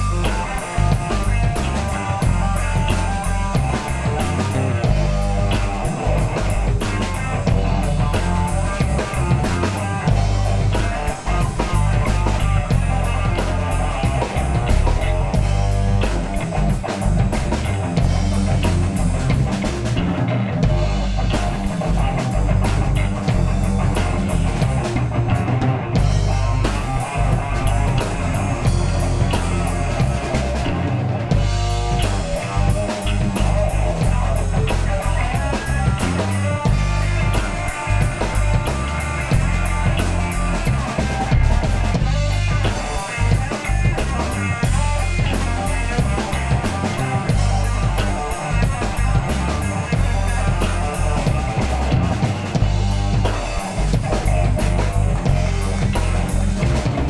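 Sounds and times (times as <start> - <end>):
bass guitar: 0.0 - 57.0
drum kit drumming: 0.0 - 57.0
electric guitar: 0.0 - 57.0.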